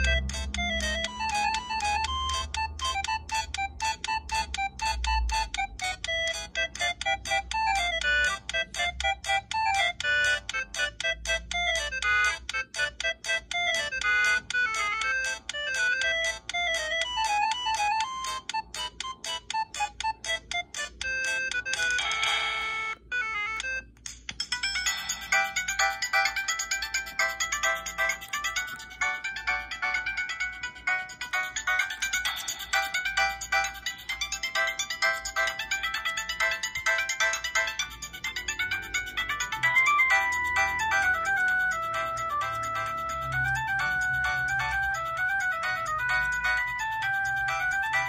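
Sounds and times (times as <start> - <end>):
electronic ringtone tune: 0.0 - 48.0.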